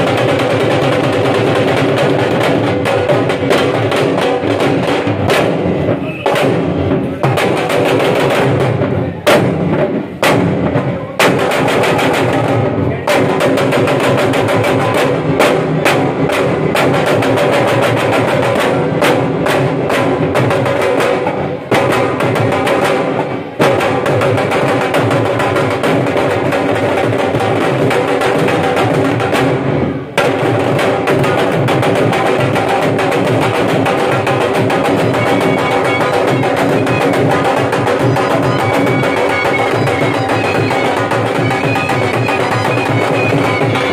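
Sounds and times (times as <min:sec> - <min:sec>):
drums beaten with sticks: 0:00.0 - 0:43.9.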